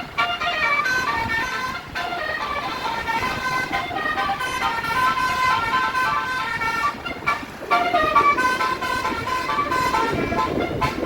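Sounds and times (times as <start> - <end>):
multi-tone bus horn melody: 0.0 - 11.0.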